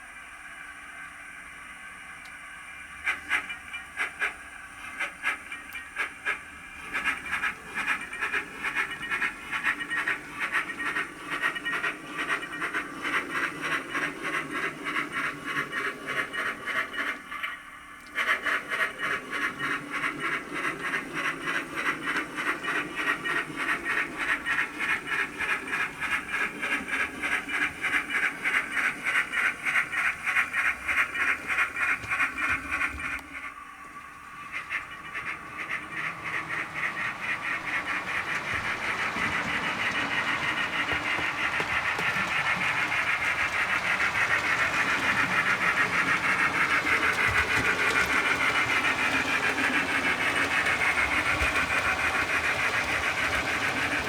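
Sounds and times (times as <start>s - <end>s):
model steam locomotive chuffs: 0.0s - 54.0s.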